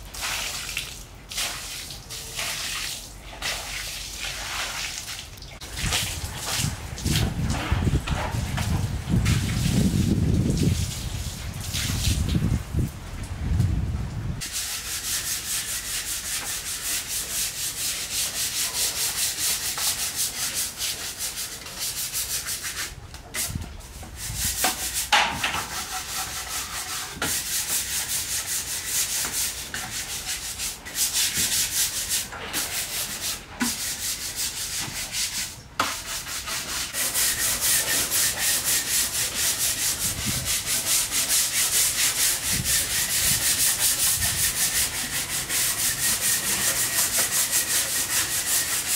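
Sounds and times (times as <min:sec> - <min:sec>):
scrub brush scrubbing wet wood: 0:00.0 - 0:12.3, 0:14.4 - 0:48.9.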